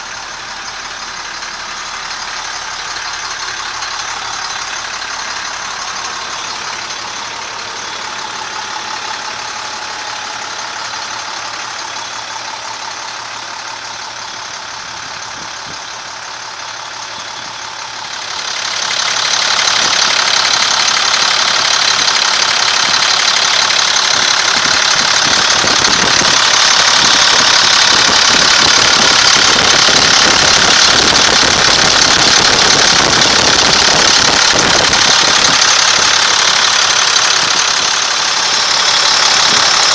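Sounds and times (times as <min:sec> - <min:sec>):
diesel engine idling with clatter: 0:00.0 - 0:39.9.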